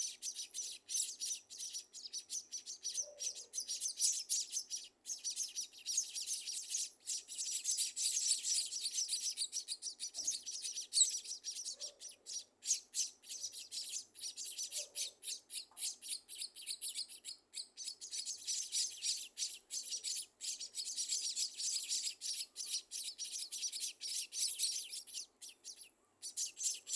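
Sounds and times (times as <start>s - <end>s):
birds chirping rapidly: 0.0s - 26.9s.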